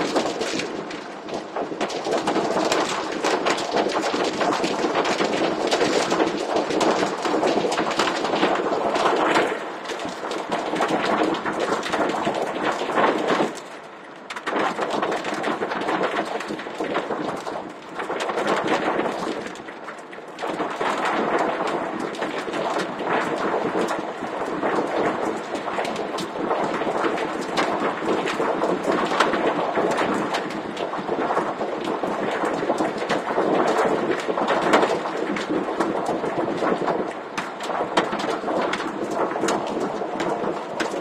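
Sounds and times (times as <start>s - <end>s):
hail and torrential rain: 0.0s - 41.0s.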